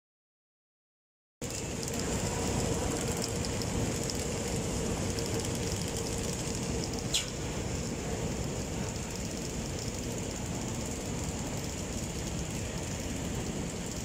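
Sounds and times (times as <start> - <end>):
faint constant hum: 1.4 - 14.0
machine running noise: 1.4 - 14.0.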